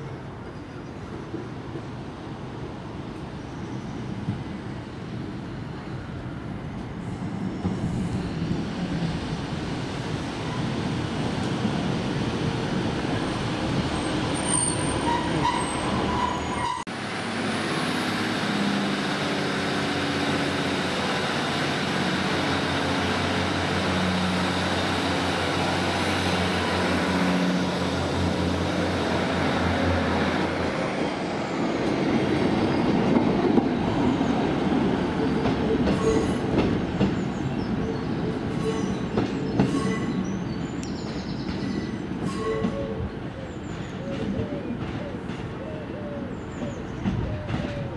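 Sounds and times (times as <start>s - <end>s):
train running into platform: 0.0s - 47.9s.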